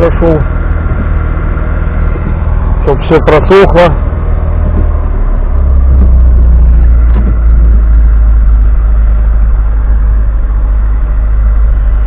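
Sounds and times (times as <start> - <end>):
car engine fast idling: 0.0 - 12.0.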